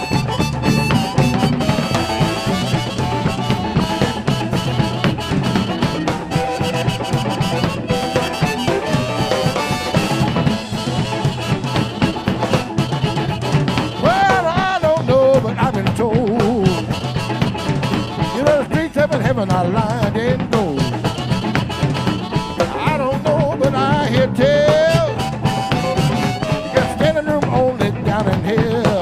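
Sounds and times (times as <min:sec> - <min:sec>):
blues band playing: 0:00.0 - 0:29.0
drums: 0:00.0 - 0:29.0.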